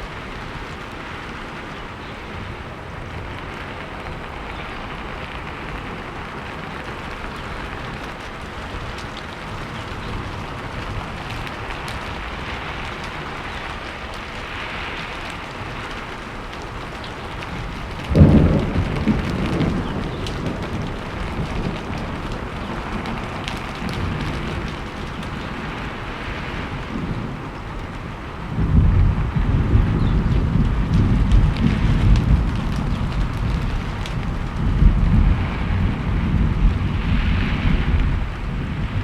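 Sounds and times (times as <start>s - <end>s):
loud thunderclap rumbling: 0.0s - 39.0s
steady rain hissing: 0.0s - 39.0s.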